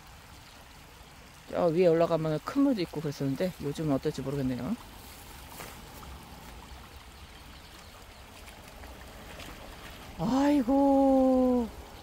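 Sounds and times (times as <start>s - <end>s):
creek trickling over rocks: 0.0s - 12.0s.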